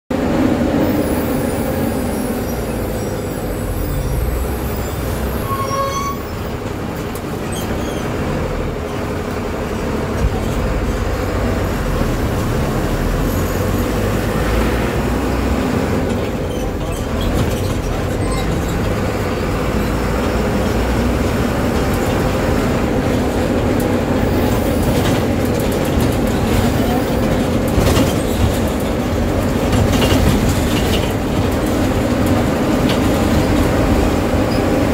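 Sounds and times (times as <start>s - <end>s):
bus body rattling: 0.1s - 34.9s.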